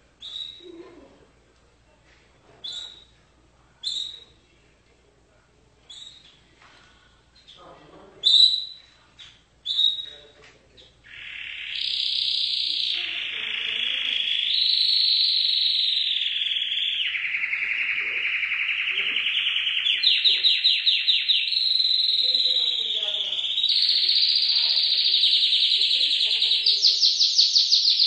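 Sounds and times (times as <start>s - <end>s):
canary singing trills: 0.2s - 0.9s, 2.6s - 3.2s, 3.8s - 4.4s, 5.9s - 6.4s, 7.4s - 28.0s.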